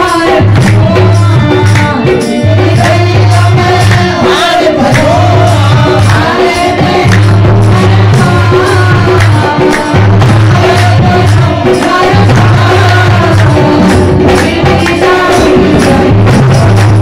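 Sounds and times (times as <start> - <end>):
woman singing into a microphone: 0.0 - 17.0
hands clapping along: 0.4 - 3.0, 3.8 - 4.2, 4.8 - 5.3, 5.9 - 17.0.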